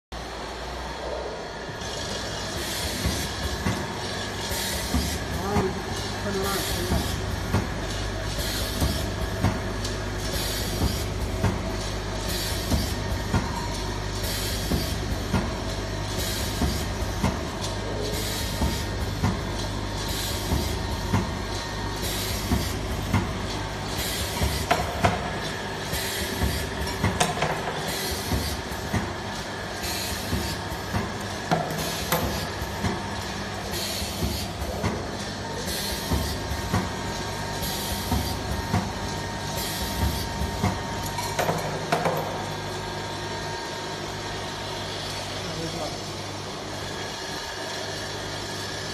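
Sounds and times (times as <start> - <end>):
machine humming: 0.2 - 48.9.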